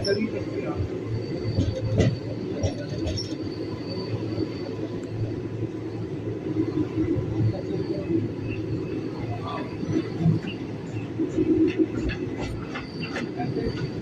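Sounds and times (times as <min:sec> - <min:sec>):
train rumbling along rails: 0:00.0 - 0:14.0.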